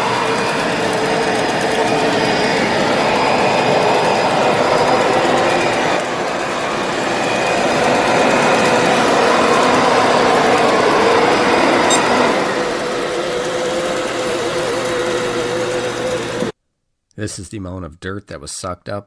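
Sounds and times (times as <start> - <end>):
robot vacuum motor whir: 0.0 - 16.5.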